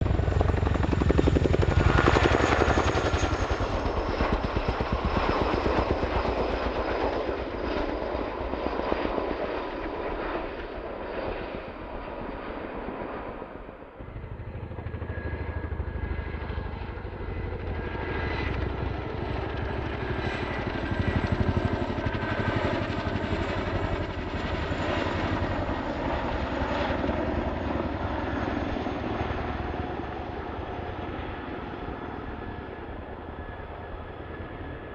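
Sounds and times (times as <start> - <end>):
helicopter rotors thudding: 0.0 - 7.5, 14.0 - 34.8
turbine engine whine: 0.0 - 7.8, 11.3 - 34.9.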